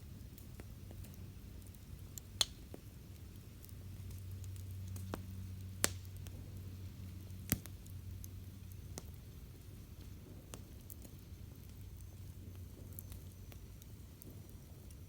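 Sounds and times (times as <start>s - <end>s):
campfire crackling: 0.0s - 15.0s
fire popping: 0.0s - 15.0s.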